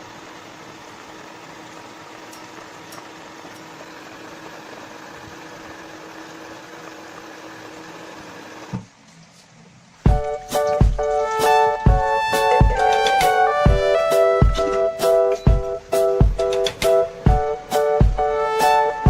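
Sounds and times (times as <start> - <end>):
fan humming and hissing: 0.0 - 19.0.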